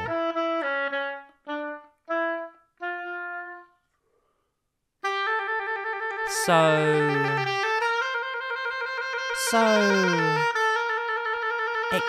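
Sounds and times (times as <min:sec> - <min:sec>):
solo oboe playing: 0:00.0 - 0:03.9, 0:05.0 - 0:12.0.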